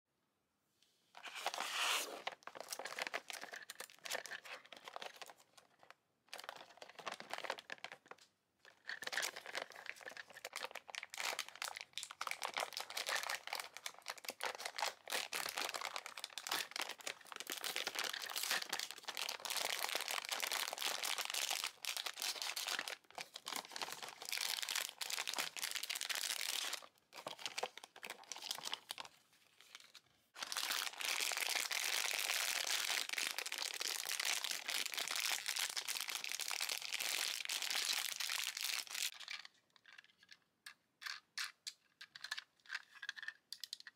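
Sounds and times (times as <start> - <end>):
plastic packaging crinkling and tearing: 1.2 - 29.1, 29.7 - 39.2.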